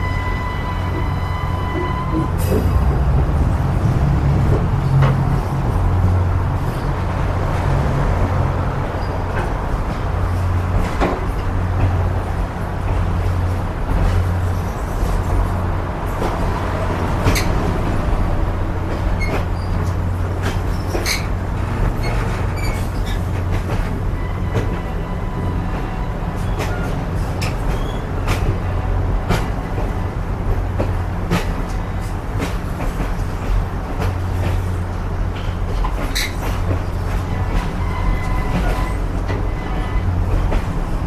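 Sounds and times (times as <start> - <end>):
train coach rumbling on track: 0.0 - 41.0.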